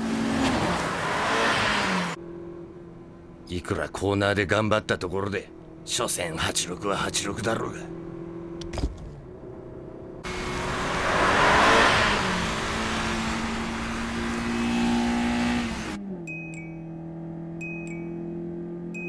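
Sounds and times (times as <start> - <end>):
car engine rushing: 0.0 - 3.5, 6.7 - 19.0.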